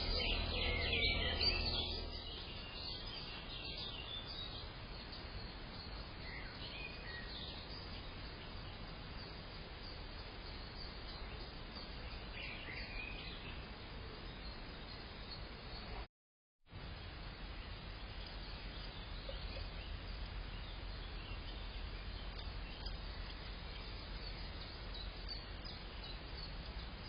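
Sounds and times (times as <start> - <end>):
faint bird chirps: 0.0 - 16.1, 17.0 - 27.0
outdoor background hiss: 0.0 - 16.1, 16.7 - 27.0.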